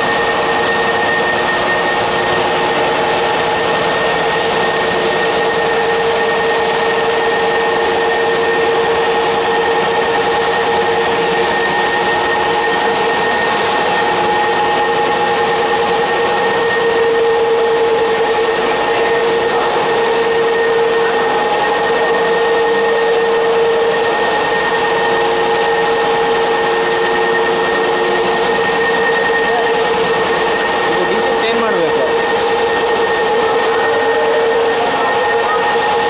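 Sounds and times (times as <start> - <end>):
mixer motor whine and hum: 0.0 - 36.0.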